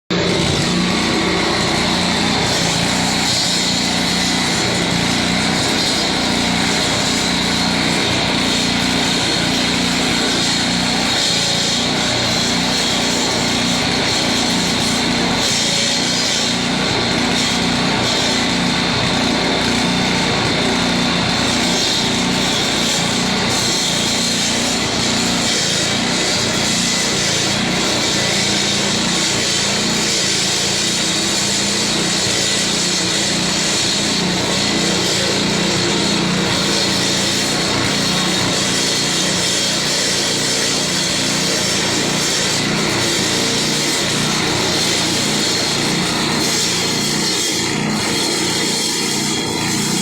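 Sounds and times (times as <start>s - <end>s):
small engine running: 0.0s - 50.0s.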